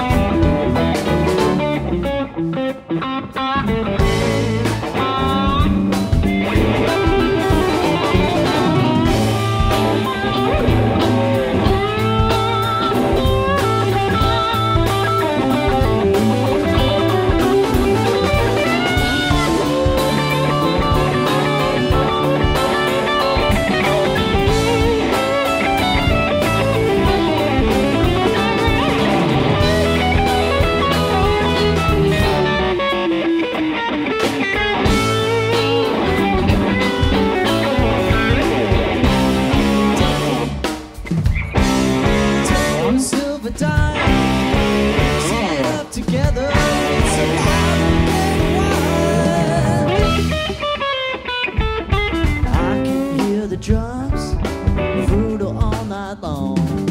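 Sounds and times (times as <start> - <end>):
electric guitar with bent notes: 0.0 - 56.9
live blues rock band: 0.0 - 56.9.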